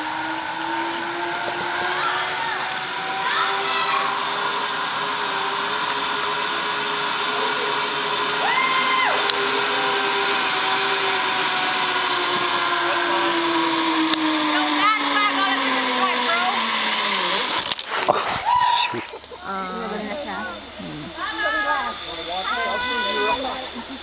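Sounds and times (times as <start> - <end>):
zip line pulleys whining on cable: 0.0 - 24.0.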